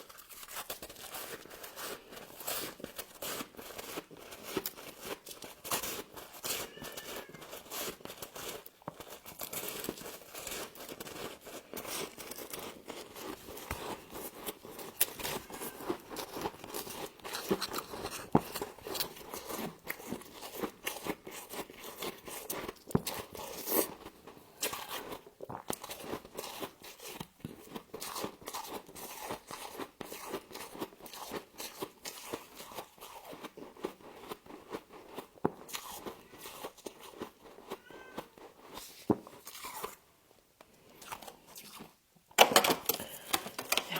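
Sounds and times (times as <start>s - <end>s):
frost crunching being chewed: 0.0s - 42.0s.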